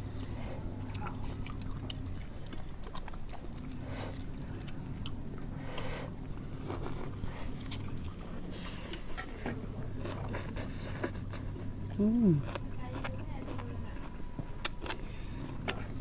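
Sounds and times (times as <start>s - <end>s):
steady low hum: 0.0s - 16.0s
crunchy food chewing: 0.1s - 16.0s.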